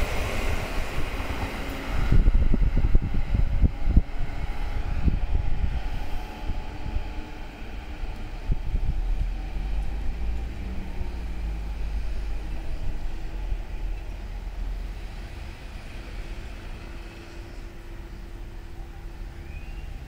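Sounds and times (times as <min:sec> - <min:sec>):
electric train rumble: 0:00.0 - 0:20.0.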